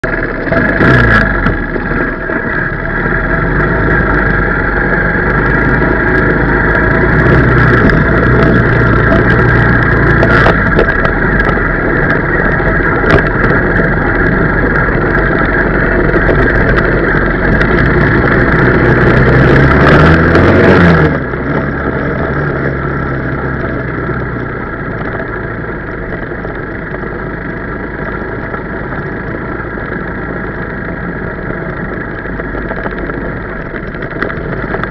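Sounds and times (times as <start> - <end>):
motorbike engine running: 0.0 - 34.9.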